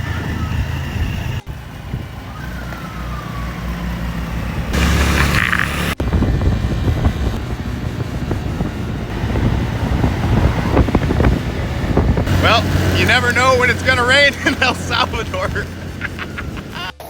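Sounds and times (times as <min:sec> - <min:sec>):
motor scooter engine rumble: 0:00.0 - 0:17.0
road and wind noise: 0:00.0 - 0:17.0.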